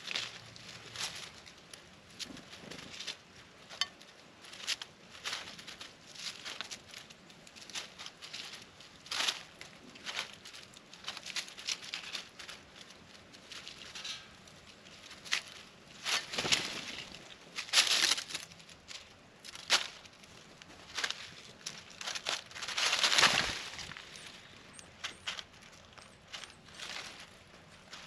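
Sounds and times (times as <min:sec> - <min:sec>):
birds pecking at peanuts: 0:00.0 - 0:28.0.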